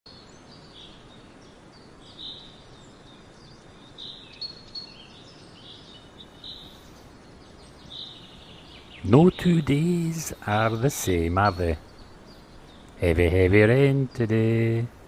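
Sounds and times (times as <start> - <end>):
small birds chirping: 0.1 - 15.0
steady background hiss: 0.1 - 15.0.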